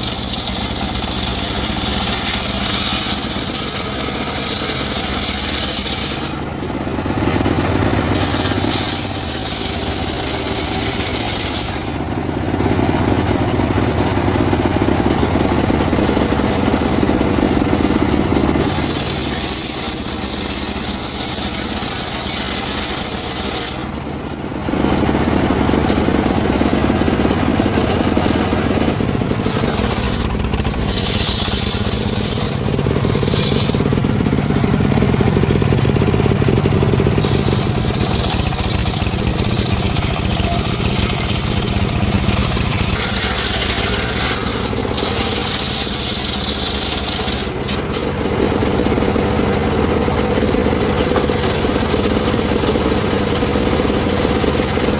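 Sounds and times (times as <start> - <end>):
engine-driven wood saw running: 0.0 - 54.9
saw cutting timber: 0.0 - 54.9.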